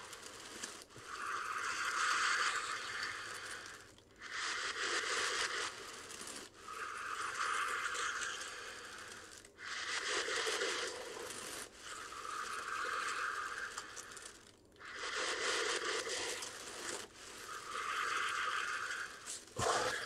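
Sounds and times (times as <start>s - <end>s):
deep breathing into plastic bag: 0.0s - 20.0s.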